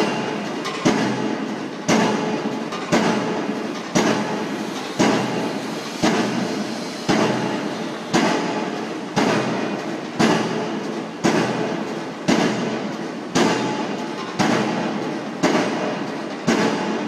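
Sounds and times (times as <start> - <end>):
pile driver hammer striking: 0.0 - 17.0.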